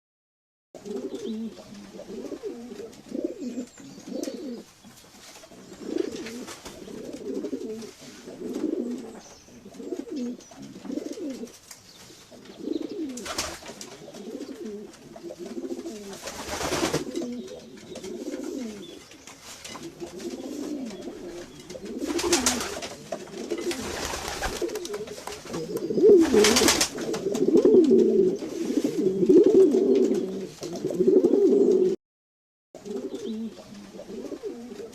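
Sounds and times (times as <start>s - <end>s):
rustling: 0.8s - 31.0s
pigeons cooing: 0.8s - 32.0s, 32.8s - 34.9s.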